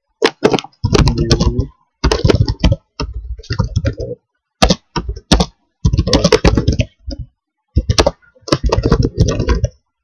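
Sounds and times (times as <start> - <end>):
typing on laptop keyboard: 0.2 - 10.0.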